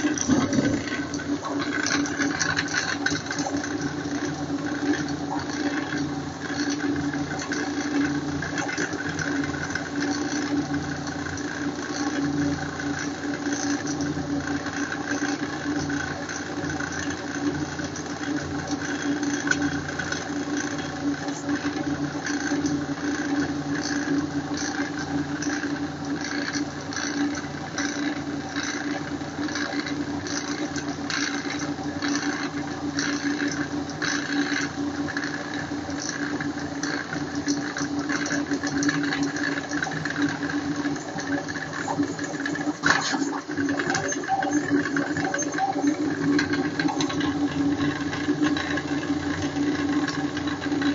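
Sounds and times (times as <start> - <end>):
printer motors whining and clicking: 0.0 - 50.9.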